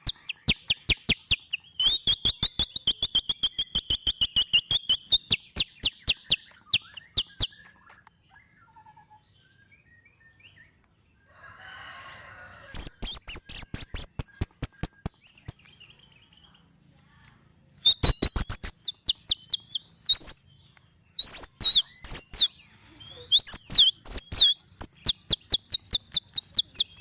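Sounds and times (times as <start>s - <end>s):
bird singing trills and whistles: 0.0s - 10.8s, 12.7s - 16.5s, 17.6s - 27.0s.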